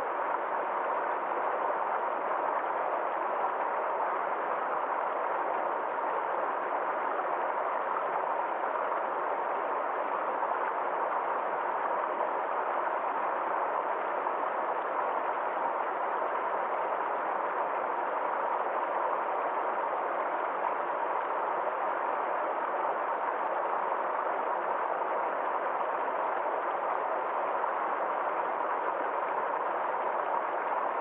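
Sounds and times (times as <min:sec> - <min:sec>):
stream flowing: 0:00.1 - 0:31.0.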